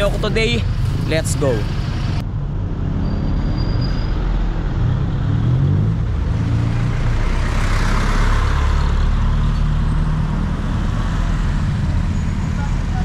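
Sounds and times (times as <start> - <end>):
vehicle engine rumble: 0.0 - 13.0
vehicle passing by: 0.0 - 13.0.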